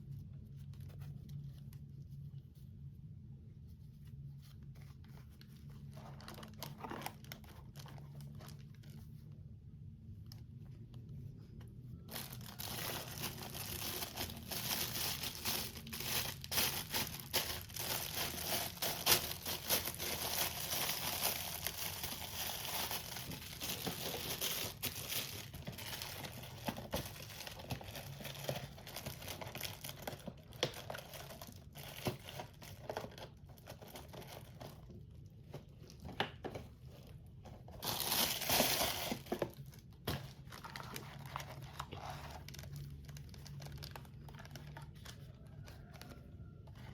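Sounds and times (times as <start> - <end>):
plastic packaging crinkling and tearing: 4.6 - 9.6, 12.0 - 46.9.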